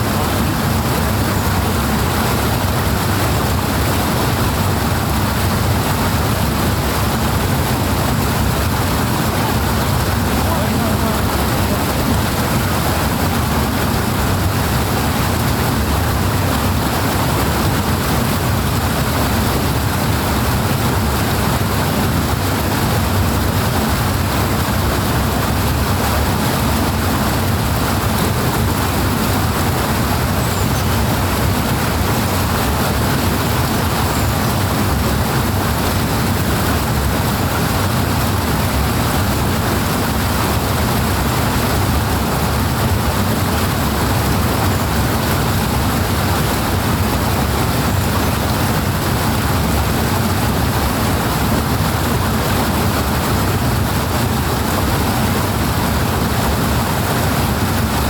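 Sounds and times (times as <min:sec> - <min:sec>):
rushing water rumbling: 0:00.0 - 0:58.0.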